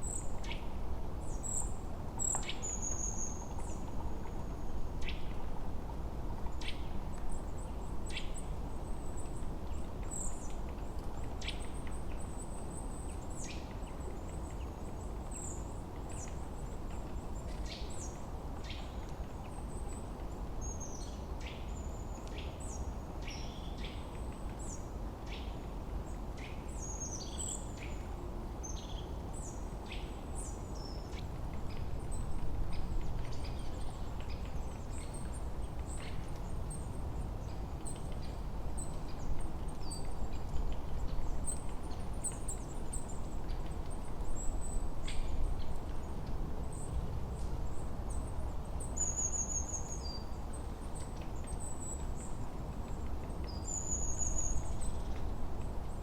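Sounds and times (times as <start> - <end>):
low rush of wind: 0.0 - 56.0.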